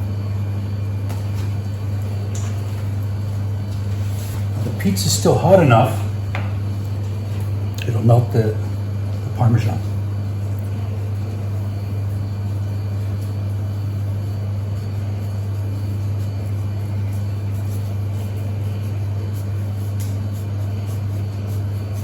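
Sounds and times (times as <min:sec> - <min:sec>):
steady low-pitched hum: 0:00.0 - 0:22.0.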